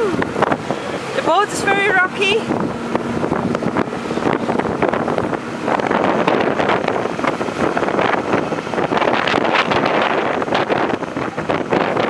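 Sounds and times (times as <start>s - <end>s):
water rushing past boat: 0.0s - 12.0s
wind buffeting microphone: 0.0s - 12.0s.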